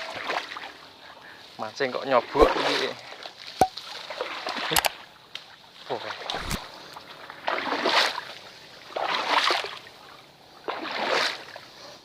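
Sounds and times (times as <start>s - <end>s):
water sloshing and splashing: 0.0s - 1.0s, 1.8s - 11.8s.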